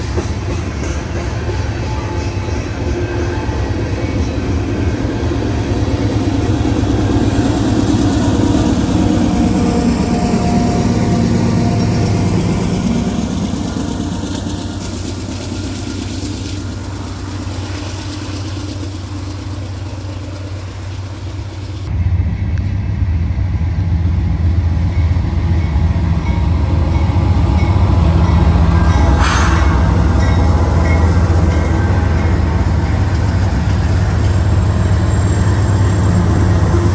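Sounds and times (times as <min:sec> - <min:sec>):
diesel locomotive engine rumble: 0:00.0 - 0:36.9
rail noise: 0:00.0 - 0:36.9.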